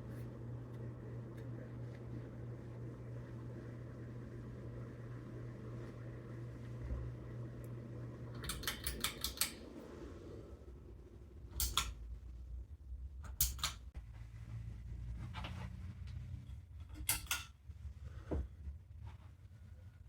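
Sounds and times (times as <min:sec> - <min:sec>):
ceiling fan motor humming: 0:00.0 - 0:20.0.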